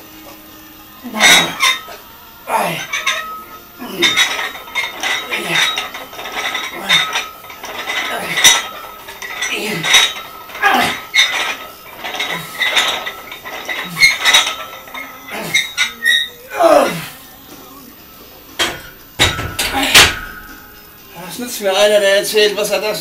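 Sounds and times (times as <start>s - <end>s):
weight plates clanking and scraping: 1.0s - 17.1s, 18.5s - 21.0s.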